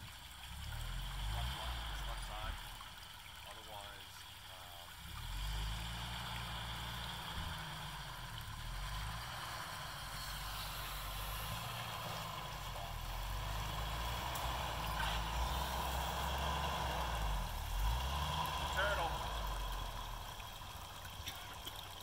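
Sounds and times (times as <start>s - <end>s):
car engine at low revs: 0.0s - 22.0s
stream water running: 0.0s - 22.0s.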